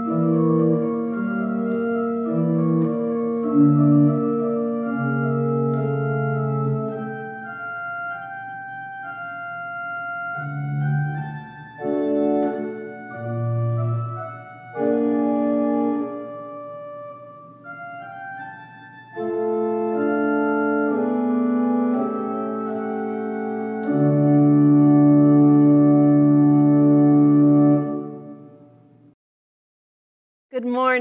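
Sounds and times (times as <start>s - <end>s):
pipe organ playing chords: 0.0s - 28.8s.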